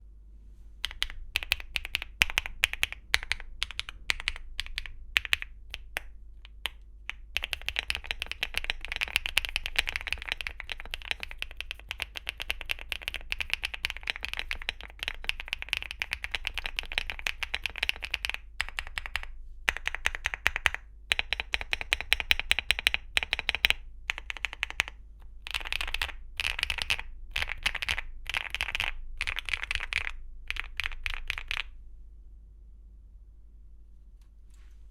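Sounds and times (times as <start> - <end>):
typing on mechanical keyboard: 0.8 - 31.7.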